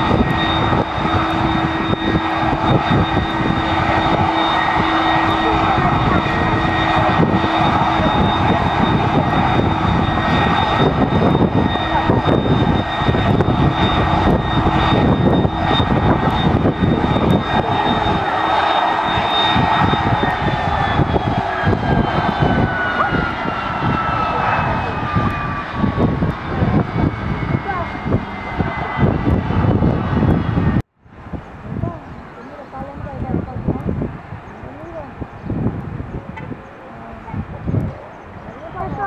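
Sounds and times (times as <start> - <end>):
airliner engines rumbling: 0.0 - 39.0
high engine whine: 0.0 - 39.0.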